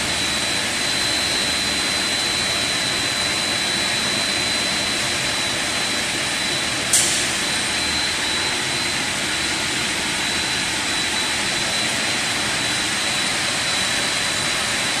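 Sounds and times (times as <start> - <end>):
high machine whine: 0.0 - 15.0
production line machinery running: 0.0 - 15.0.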